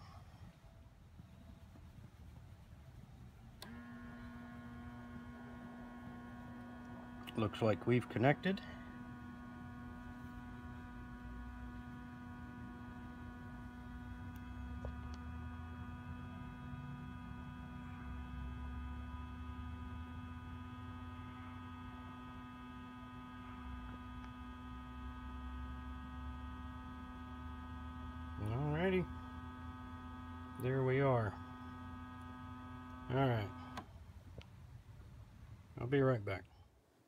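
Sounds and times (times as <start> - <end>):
steady machine hum: 0.0 - 37.0.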